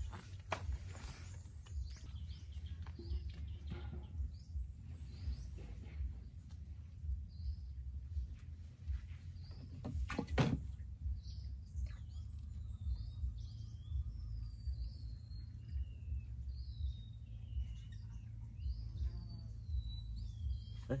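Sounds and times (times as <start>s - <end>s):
low steady rumble: 0.0s - 21.0s
small birds singing: 0.0s - 21.0s.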